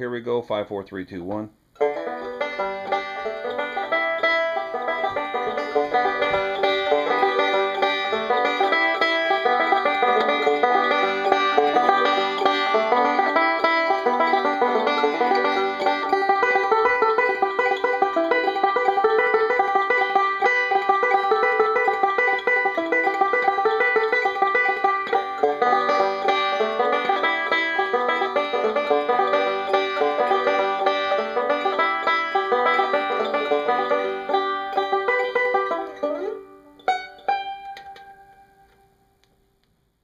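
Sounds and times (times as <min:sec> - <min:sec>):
banjo picking: 0:01.8 - 0:38.7.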